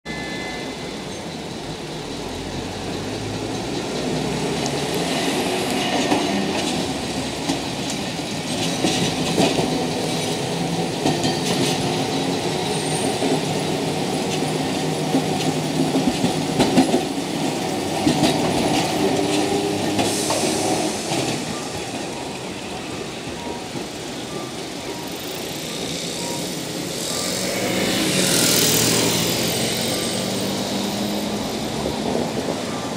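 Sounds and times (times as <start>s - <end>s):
traffic noise: 0.1s - 32.9s
streetcar wheels clattering over rails: 0.9s - 32.9s.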